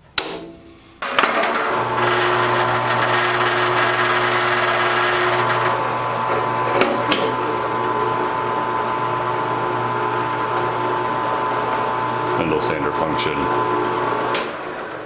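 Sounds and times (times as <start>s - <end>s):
drill press motor hum: 1.0s - 15.0s.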